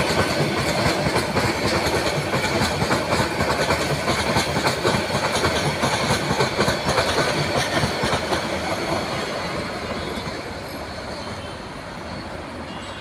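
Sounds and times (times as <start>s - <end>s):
train wheels clattering over rail joints: 0.0s - 10.4s.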